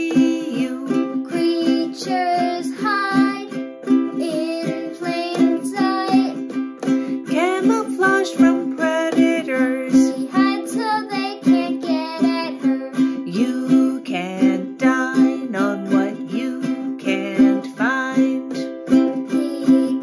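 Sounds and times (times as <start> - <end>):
woman and boy singing: 0.0 - 6.5, 7.1 - 20.0
ukulele strumming: 0.0 - 20.0.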